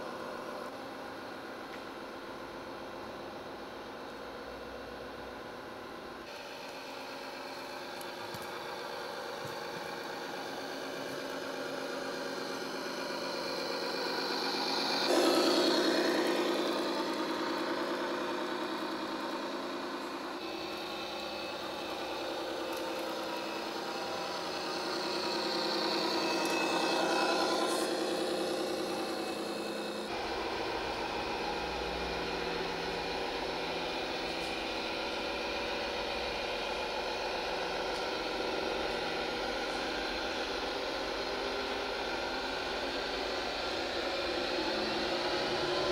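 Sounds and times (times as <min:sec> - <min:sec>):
engine sound idling and revving: 0:00.0 - 0:45.9.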